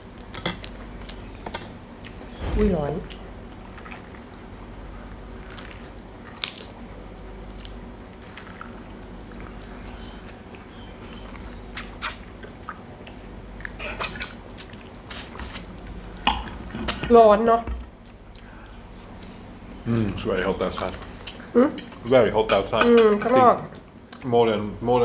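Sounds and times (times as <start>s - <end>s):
soft chewing: 0.0s - 2.5s, 3.1s - 17.1s, 17.8s - 22.1s
steady low hum: 0.0s - 25.0s.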